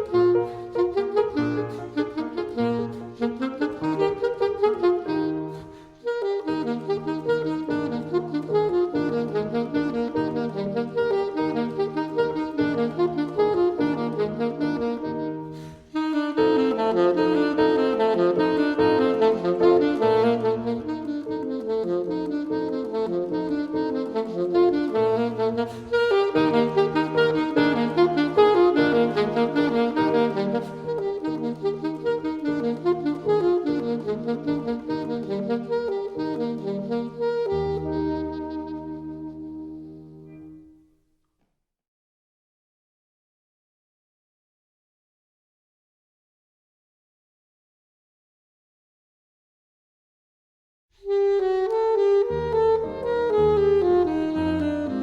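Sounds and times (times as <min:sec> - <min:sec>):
saxophone playing: 0:00.0 - 0:40.8, 0:51.0 - 0:55.0
piano accompaniment: 0:00.0 - 0:40.9, 0:51.3 - 0:55.0.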